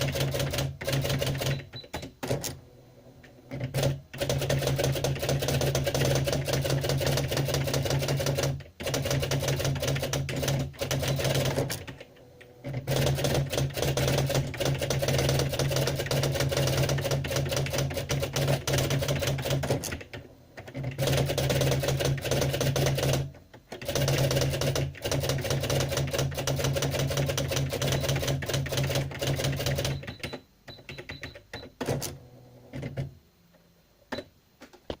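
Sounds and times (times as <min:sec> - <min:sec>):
typewriter typing: 0:00.0 - 0:02.6, 0:03.5 - 0:32.2.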